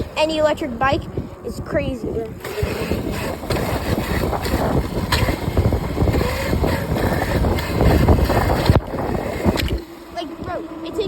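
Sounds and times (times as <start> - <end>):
rumbling road noise: 0.0 - 11.0
wind buffeting microphone: 0.0 - 11.0.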